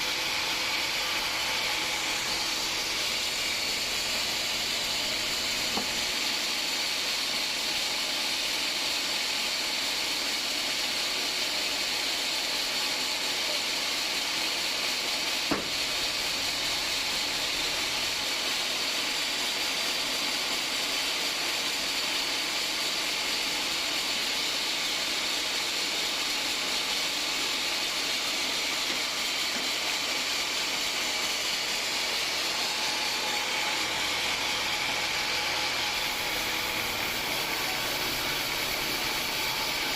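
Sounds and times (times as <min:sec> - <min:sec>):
band saw blade cutting log: 0:00.0 - 0:39.9.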